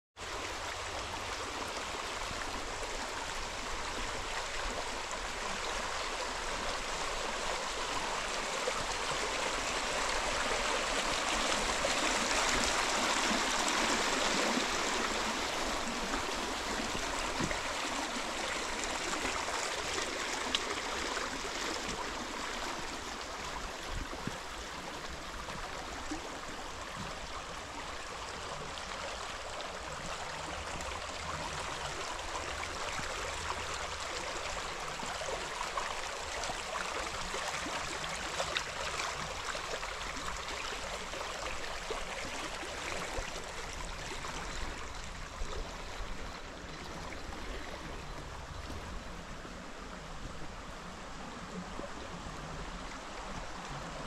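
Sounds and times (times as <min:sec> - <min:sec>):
water flowing along a ditch: 0:00.2 - 0:54.0.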